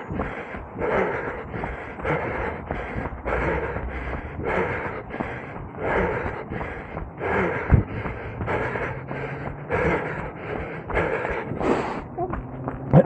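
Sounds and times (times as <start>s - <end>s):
person breathing hard: 0.0s - 12.8s.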